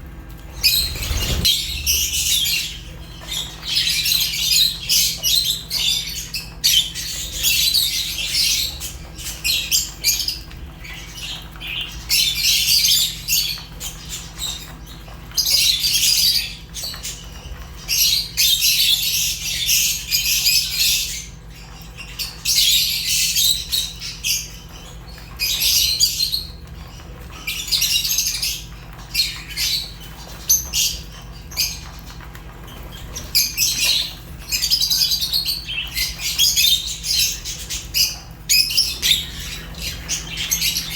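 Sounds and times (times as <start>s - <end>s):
lovebirds chattering and squawking: 0.2s - 40.9s.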